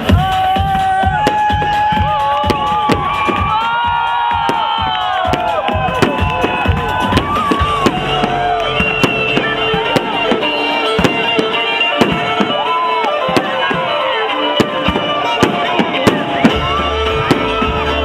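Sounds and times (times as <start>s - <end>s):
fireworks banging: 0.0s - 18.0s
melodic music: 0.0s - 18.0s.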